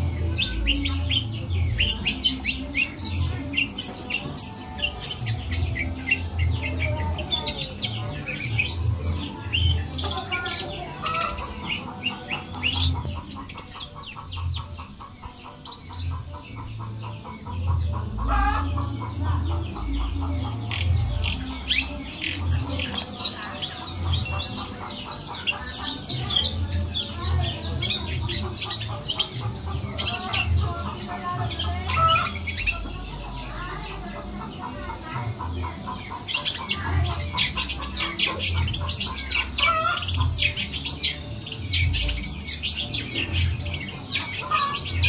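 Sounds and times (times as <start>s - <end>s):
bird singing high chirps: 0.0s - 34.6s, 35.3s - 45.0s.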